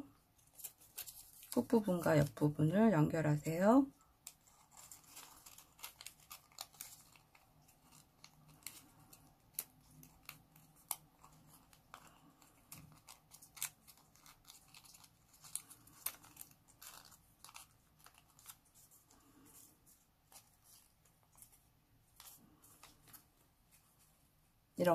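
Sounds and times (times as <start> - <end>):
paper crinkling and clicking: 0.3 - 2.4, 4.1 - 24.1.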